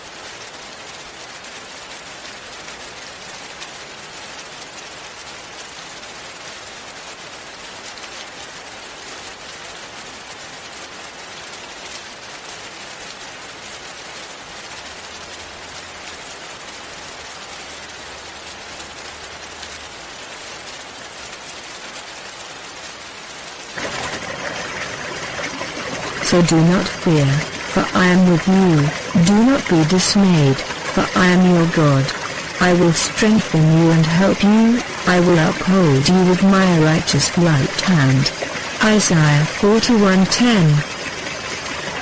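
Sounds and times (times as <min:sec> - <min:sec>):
hissing water like rain: 0:00.0 - 0:40.1, 0:40.8 - 0:42.0.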